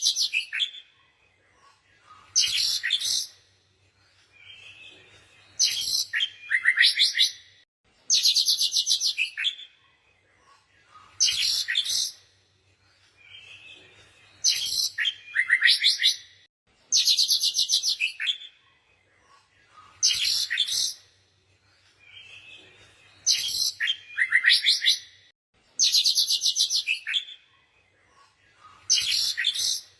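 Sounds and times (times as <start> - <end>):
songbird chirping and trilling: 0.0 - 29.9.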